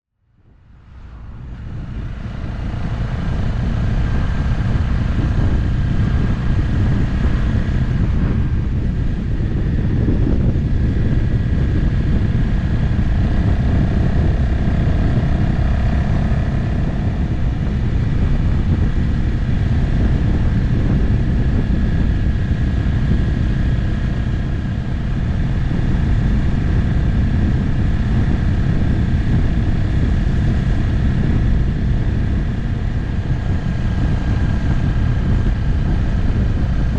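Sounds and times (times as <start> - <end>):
wind and road noise: 0.1 - 36.9
motorcycle engine cruising: 0.4 - 36.9.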